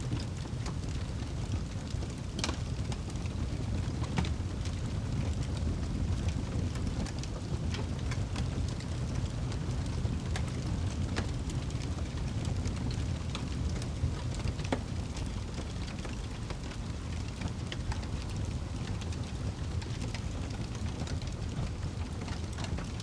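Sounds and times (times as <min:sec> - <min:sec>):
fire crackling: 0:00.0 - 0:23.0
low rumble of flames: 0:00.0 - 0:23.0.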